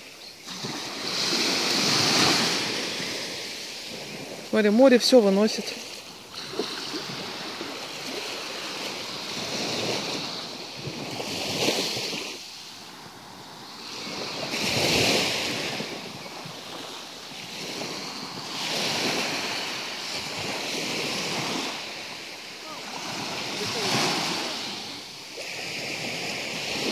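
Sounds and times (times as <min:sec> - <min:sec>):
small waves washing onto beach: 0:00.0 - 0:26.9.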